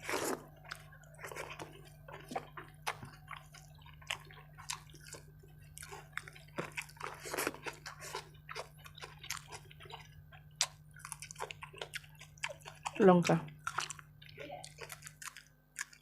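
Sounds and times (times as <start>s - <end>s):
low steady hum: 0.0s - 16.0s
wet eating smacks and squelches: 0.0s - 16.0s.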